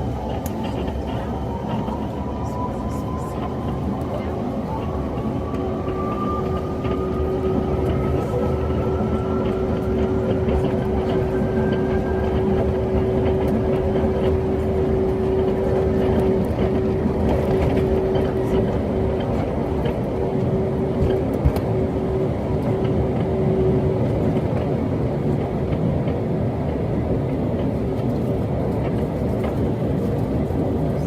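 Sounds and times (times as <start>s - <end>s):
rising engine whine: 0.0s - 25.6s
airplane engines at takeoff: 0.0s - 31.0s.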